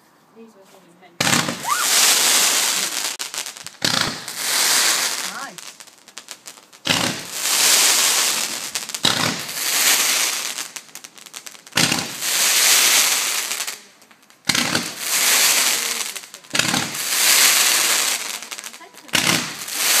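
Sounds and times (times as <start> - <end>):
fireworks hissing: 1.2 - 20.0
fireworks shots: 1.2 - 20.0.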